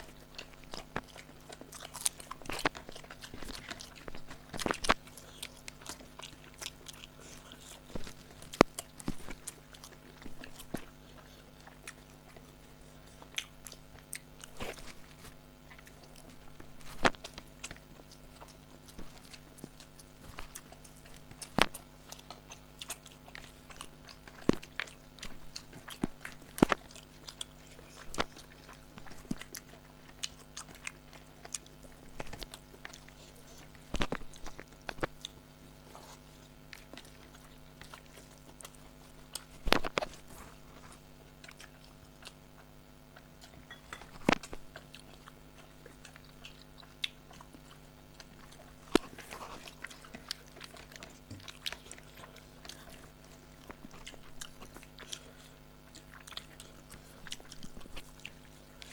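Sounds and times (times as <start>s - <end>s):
people chewing: 0.0s - 58.9s
steady low hum: 0.0s - 58.9s.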